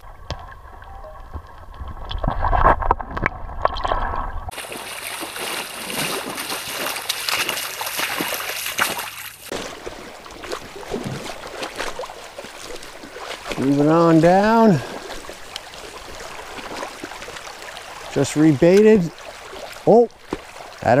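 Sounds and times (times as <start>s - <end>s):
water sloshing and splashing: 0.0s - 21.0s
brook rushing over stones: 1.8s - 21.0s.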